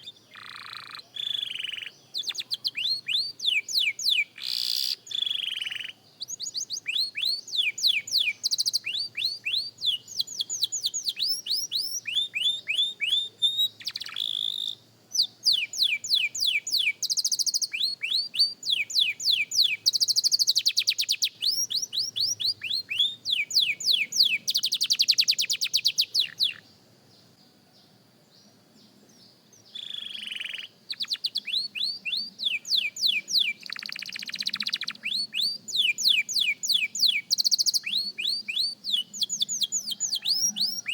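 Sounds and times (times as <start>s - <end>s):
canary singing: 0.0s - 26.7s, 29.5s - 40.9s.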